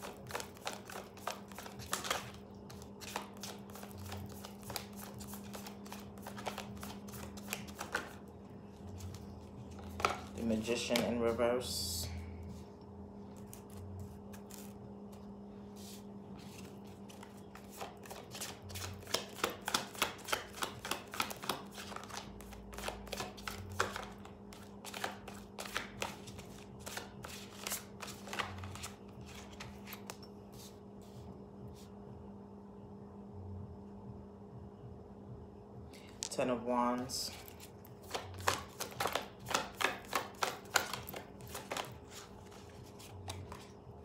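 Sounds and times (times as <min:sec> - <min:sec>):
cards being shuffled by hand: 0:00.0 - 0:11.4, 0:13.3 - 0:31.2, 0:37.3 - 0:43.8.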